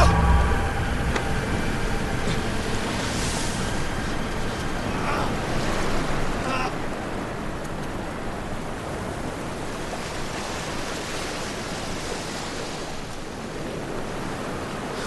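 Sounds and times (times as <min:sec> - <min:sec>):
waves breaking on beach: 0:02.1 - 0:15.0.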